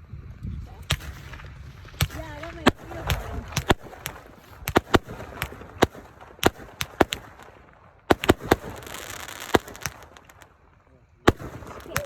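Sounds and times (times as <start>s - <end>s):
fireworks banging: 0.7s - 12.0s
fireworks hiss: 0.9s - 10.6s, 11.3s - 12.0s.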